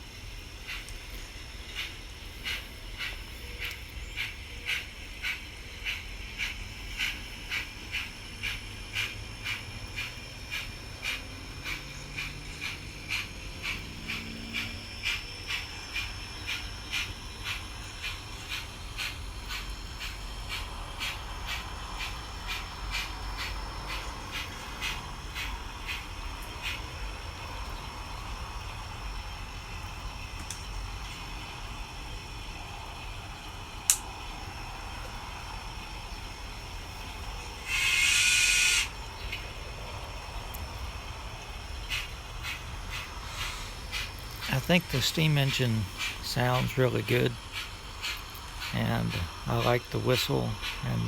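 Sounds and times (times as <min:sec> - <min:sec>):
low hum of model train: 0:00.0 - 0:51.0
model steam locomotive chuffing: 0:00.0 - 0:51.0.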